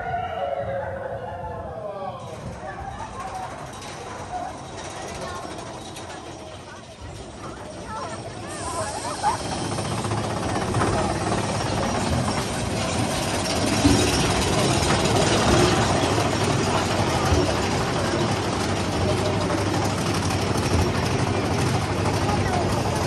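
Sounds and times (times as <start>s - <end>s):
roller coaster rattling on track: 0.0s - 23.0s
wind: 0.0s - 23.0s.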